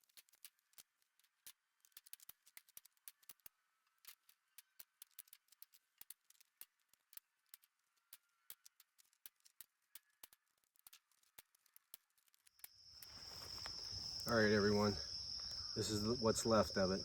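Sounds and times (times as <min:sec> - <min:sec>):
faint sharp clicks and crackles: 0:00.0 - 0:17.0.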